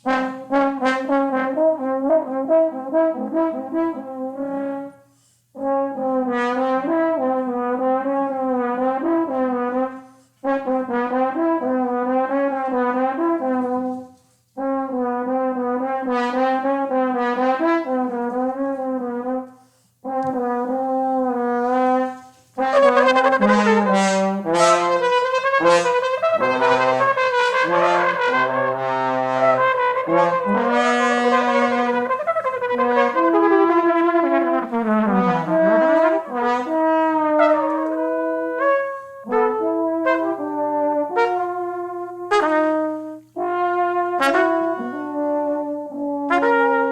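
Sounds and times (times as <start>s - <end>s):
trombone playing: 0.0s - 5.0s, 5.6s - 46.9s
trumpet held notes: 0.0s - 46.9s.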